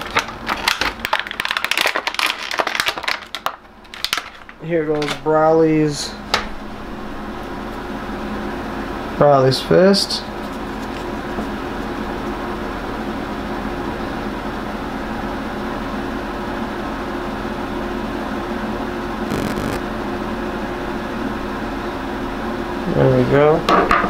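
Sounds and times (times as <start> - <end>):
steady machine hum: 3.5 - 23.6.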